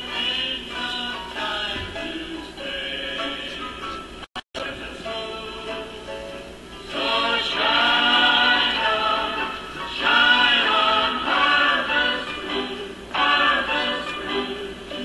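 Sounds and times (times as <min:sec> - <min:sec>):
recorded music with singing: 0:00.0 - 0:15.0.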